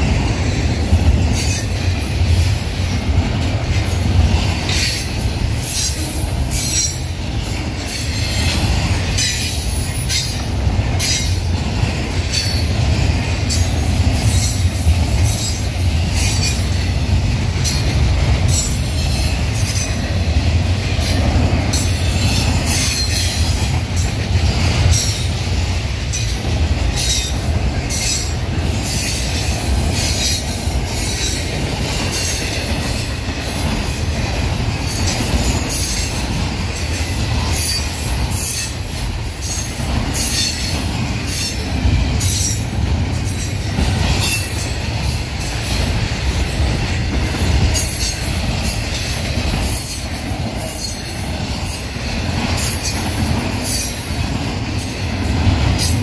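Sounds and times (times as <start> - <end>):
train cars clanking: 0.0 - 56.0
train wheels rumbling on rail: 0.0 - 56.0.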